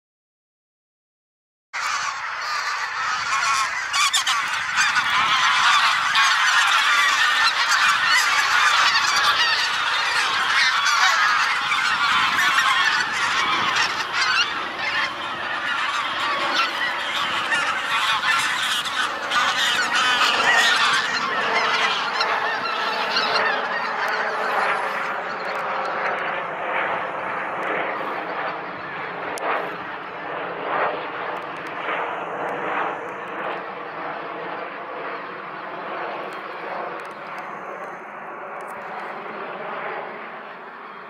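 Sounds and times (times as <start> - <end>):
geese honking in flight: 1.8 - 39.4.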